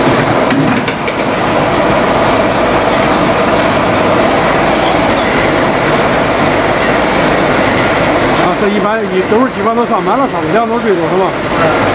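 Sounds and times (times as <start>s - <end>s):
loud machinery noise: 0.0s - 11.9s.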